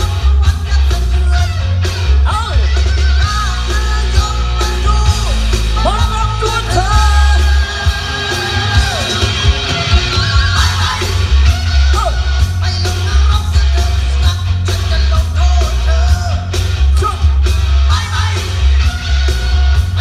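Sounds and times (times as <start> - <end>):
heavy pulsing bass: 0.0 - 20.0
song over outdoor sound system: 0.0 - 20.0.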